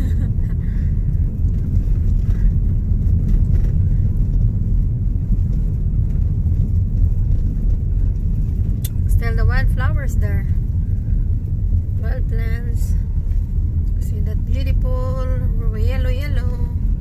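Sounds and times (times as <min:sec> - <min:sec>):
car interior engine and road rumble: 0:00.0 - 0:17.0.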